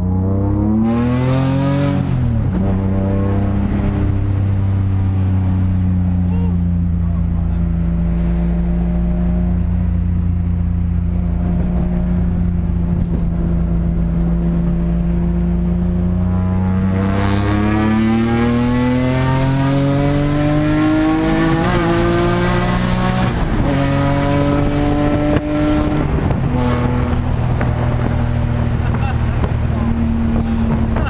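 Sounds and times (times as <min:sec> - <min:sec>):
loud car engine accelerating: 0:00.0 - 0:31.0.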